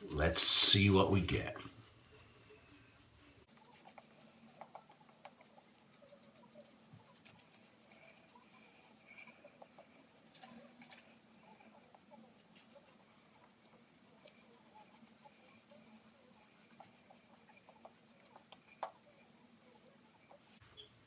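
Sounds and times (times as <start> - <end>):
shaving brush squishing lather: 0.0 - 2.5, 3.4 - 20.6.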